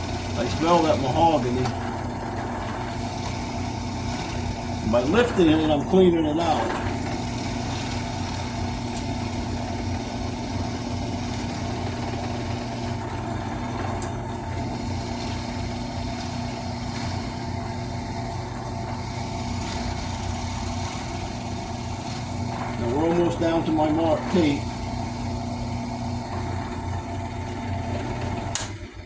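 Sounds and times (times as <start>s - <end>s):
drill press boring into wood: 0.0s - 29.0s.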